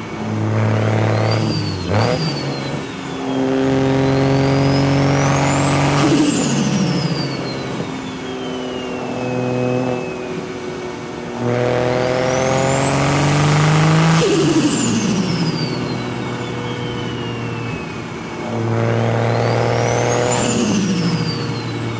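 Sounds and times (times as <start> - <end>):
turbo whine: 0.0 - 21.9.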